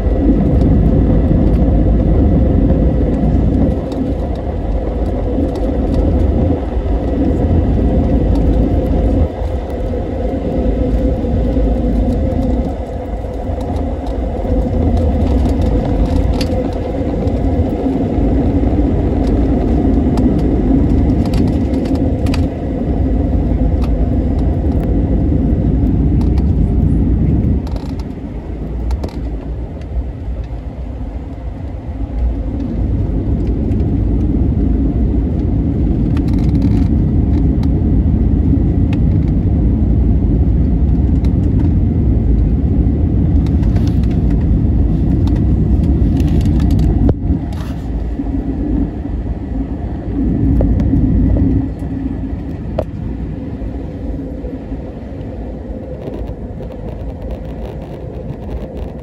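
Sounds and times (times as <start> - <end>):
jet engines rumbling from cabin: 0.0 - 59.0.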